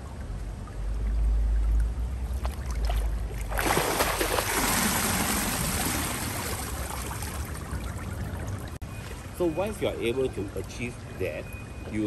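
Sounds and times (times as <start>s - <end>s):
pool water splashing: 0.0s - 12.0s.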